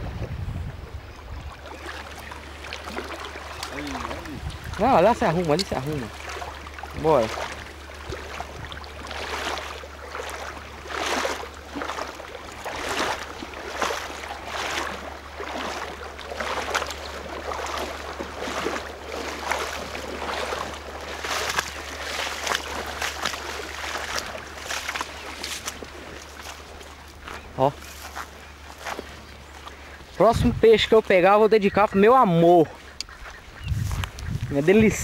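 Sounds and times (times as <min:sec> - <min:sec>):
footsteps wading through water: 0:00.0 - 0:35.0
footsteps swishing through wet grass: 0:01.6 - 0:31.2, 0:31.9 - 0:35.0.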